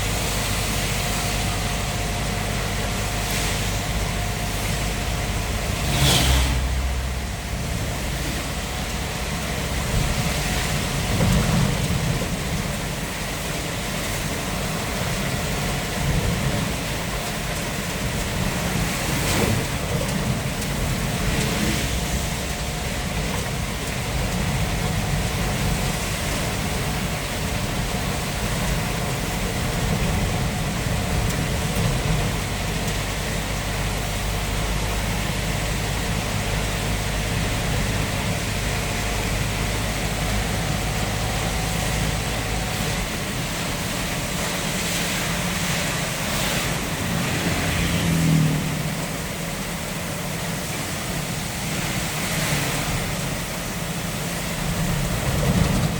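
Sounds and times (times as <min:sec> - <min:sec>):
rain and tyre spray hiss: 0:00.0 - 0:55.9
truck engine drone: 0:00.0 - 0:55.9.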